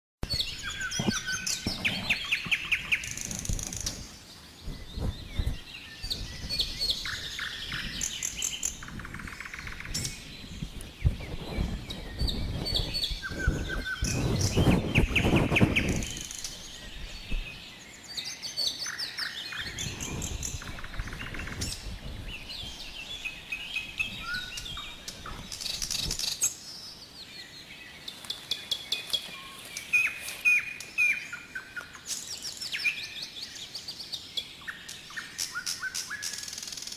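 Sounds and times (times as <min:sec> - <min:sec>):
songbirds chirping and trilling: 0:00.2 - 0:36.9.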